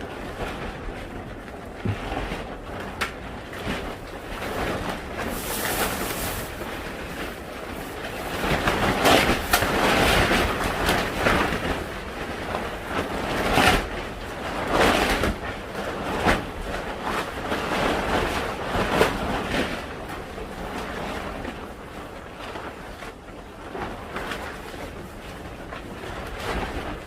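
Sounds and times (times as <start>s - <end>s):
strong wind gusting over microphone: 0.0s - 27.0s.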